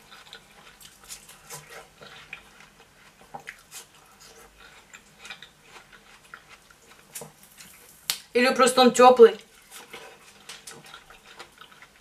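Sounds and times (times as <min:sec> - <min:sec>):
person chewing watermelon: 0:00.0 - 0:08.2, 0:09.4 - 0:12.0.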